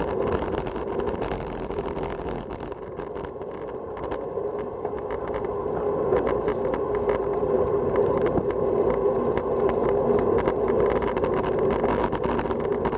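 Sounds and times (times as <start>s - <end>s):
bicycle clicks and rattles: 0.0s - 12.9s
bicycle tyre noise on asphalt: 0.0s - 12.9s
wind rushing over microphone: 0.0s - 12.9s.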